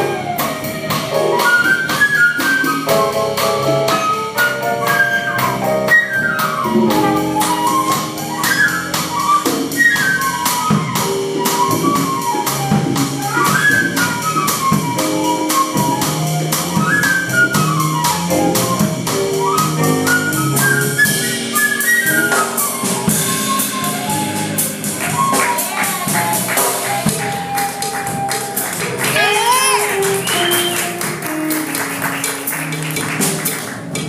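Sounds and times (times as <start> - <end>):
flute playing quick runs: 0.0 - 33.9
congas: 0.0 - 34.0
drums: 0.0 - 34.0.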